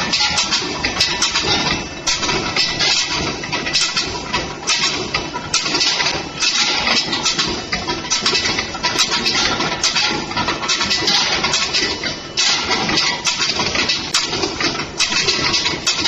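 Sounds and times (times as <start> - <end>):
rolling mill mechanical din: 0.0 - 16.0.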